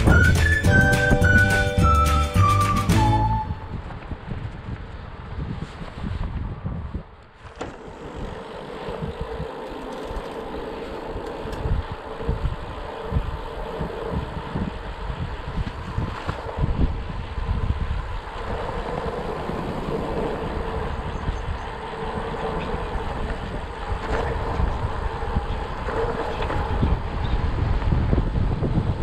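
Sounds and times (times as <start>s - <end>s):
wind buffeting microphone: 0.0s - 2.0s, 3.1s - 29.0s
bicycle tyres rolling: 0.0s - 29.0s.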